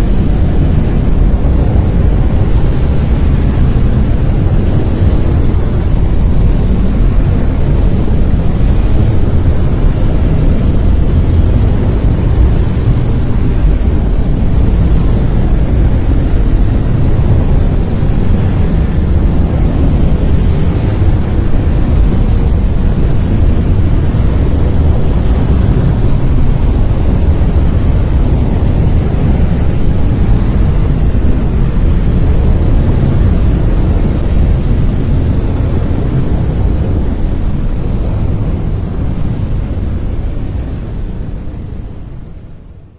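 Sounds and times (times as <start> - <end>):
deep steady hiss: 0.0 - 42.9.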